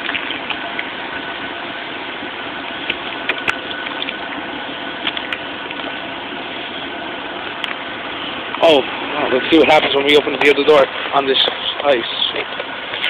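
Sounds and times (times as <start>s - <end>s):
rushing noise inside car cab: 0.0s - 13.0s.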